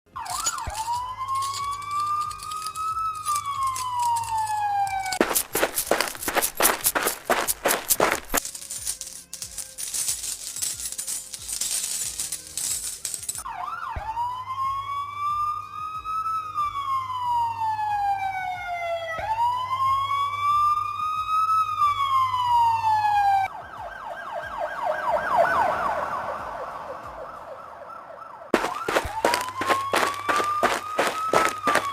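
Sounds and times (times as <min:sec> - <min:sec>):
police siren wailing: 0:00.1 - 0:08.2, 0:13.4 - 0:31.9.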